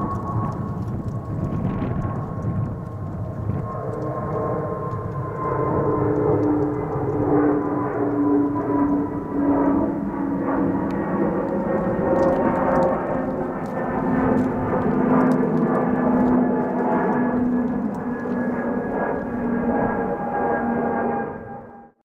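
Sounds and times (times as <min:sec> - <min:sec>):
jet engines climbing: 0:00.0 - 0:22.0.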